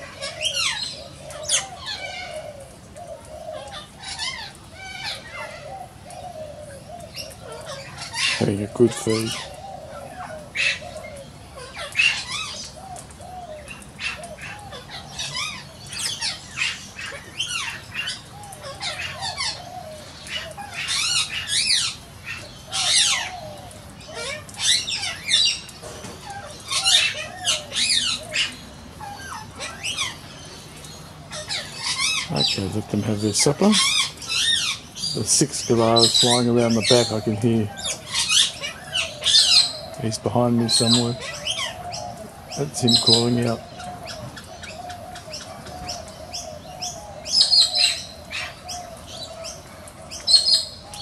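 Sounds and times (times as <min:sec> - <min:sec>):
birds screeching: 0:00.0 - 0:51.0.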